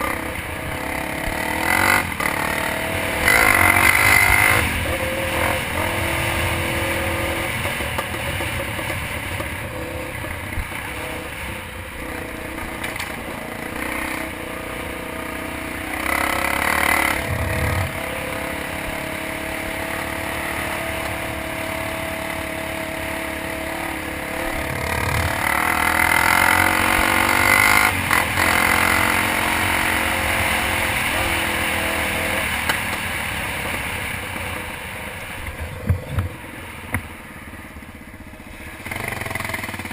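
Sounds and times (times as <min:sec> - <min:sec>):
dirt bike engine revving: 0:00.0 - 0:36.5, 0:38.5 - 0:39.9.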